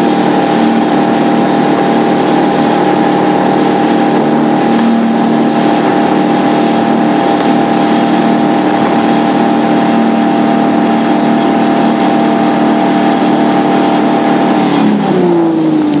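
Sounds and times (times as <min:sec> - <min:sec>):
boat engine running: 0:00.0 - 0:16.0
rush of wind and water: 0:00.0 - 0:16.0.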